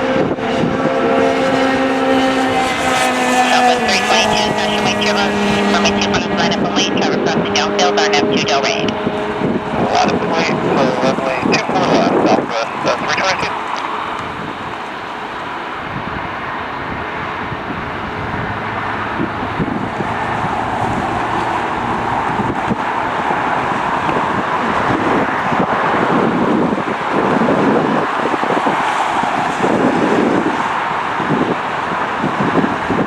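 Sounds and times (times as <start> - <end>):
jet engines roaring: 0.0 - 33.0
wind buffeting microphone: 0.0 - 33.0.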